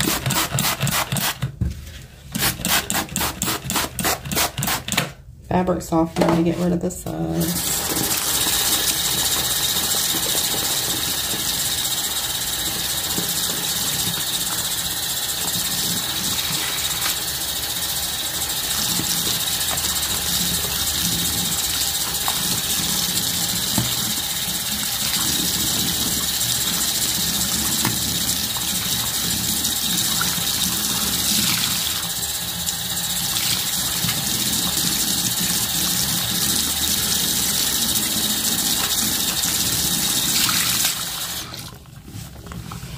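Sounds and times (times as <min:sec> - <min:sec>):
faucet running into sink: 0:07.4 - 0:41.8.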